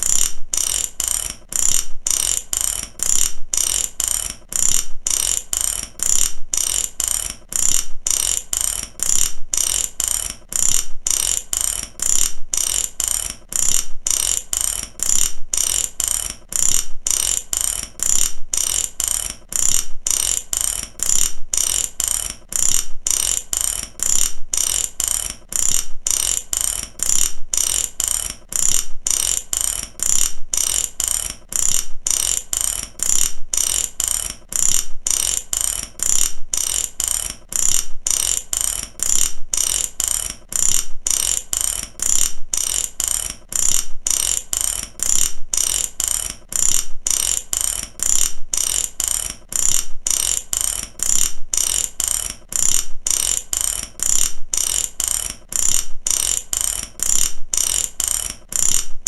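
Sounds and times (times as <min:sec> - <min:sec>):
mechanical ratchet clicking: 0:00.0 - 0:59.0.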